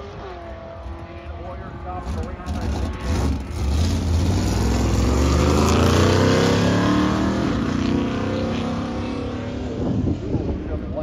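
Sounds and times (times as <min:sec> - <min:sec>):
racing car engine accelerating: 0:00.0 - 0:10.9.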